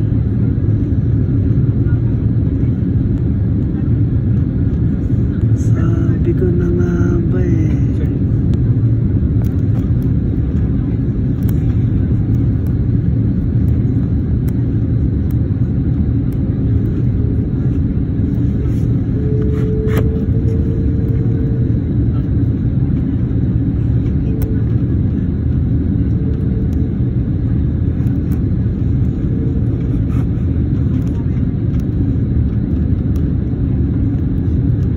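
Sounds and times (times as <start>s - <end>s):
faint steady hum: 0.0s - 34.9s
jet engine rumble in cabin: 0.0s - 34.9s.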